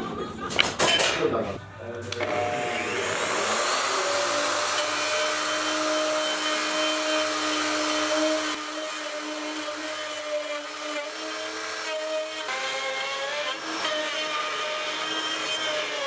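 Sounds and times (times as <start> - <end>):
wood lathe motor whine: 2.2 - 16.0.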